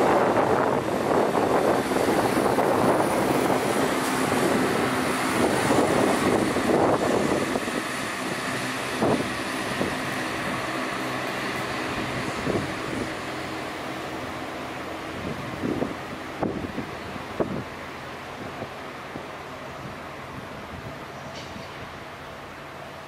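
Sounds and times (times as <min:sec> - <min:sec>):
diesel train engine drone: 0:00.0 - 0:23.0
train wheels rumbling on rails: 0:00.0 - 0:23.0.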